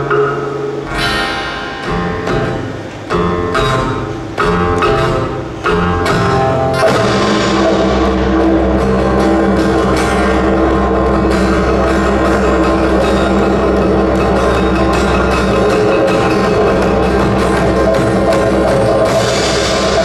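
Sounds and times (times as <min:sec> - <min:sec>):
drums and percussion beating: 0:00.0 - 0:20.0
held pitched tones: 0:00.0 - 0:20.0.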